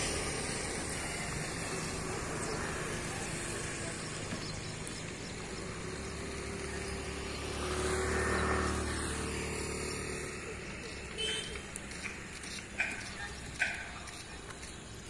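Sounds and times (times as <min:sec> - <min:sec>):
road traffic hum: 0:00.0 - 0:15.0
vehicle passing: 0:00.0 - 0:15.0.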